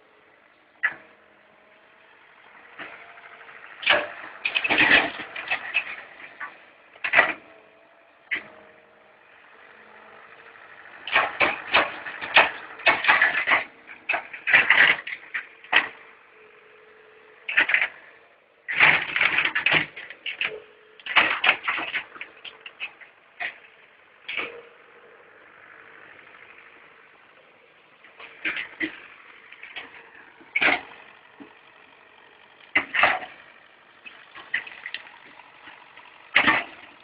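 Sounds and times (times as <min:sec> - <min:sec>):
faint engine hum: 0:00.0 - 0:37.0
excavator clattering and cracking: 0:00.1 - 0:37.0.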